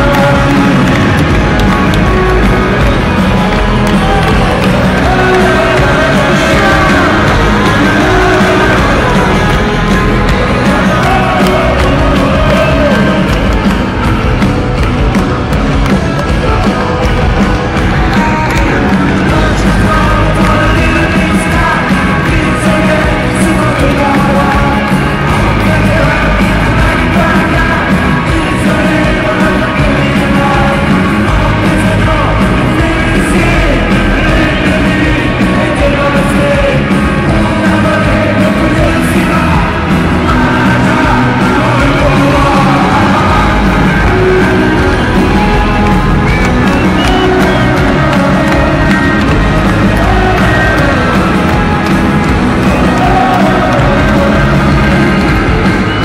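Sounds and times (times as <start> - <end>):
crowd yelling along: 0.0 - 56.0
lead singer singing: 0.0 - 56.0
live rock band playing loudly: 0.0 - 56.0.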